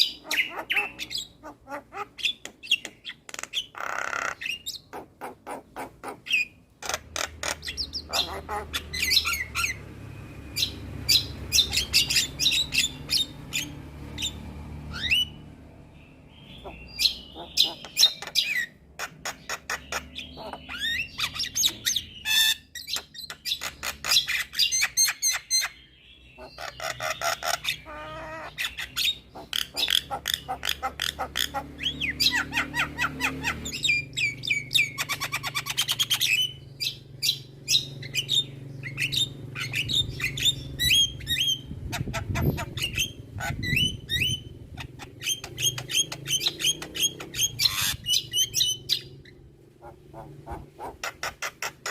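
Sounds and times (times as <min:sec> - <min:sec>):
myna bird singing: 0:00.0 - 0:51.9.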